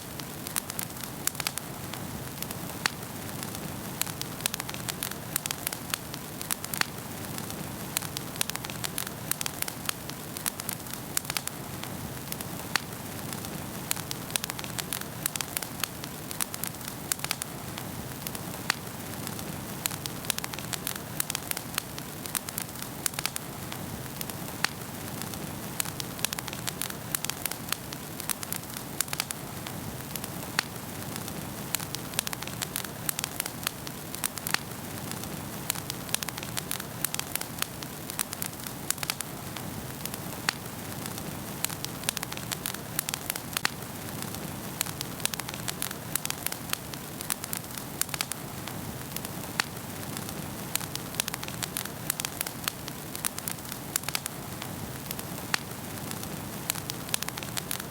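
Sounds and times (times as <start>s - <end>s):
wood fire crackling and popping: 0.0s - 57.9s.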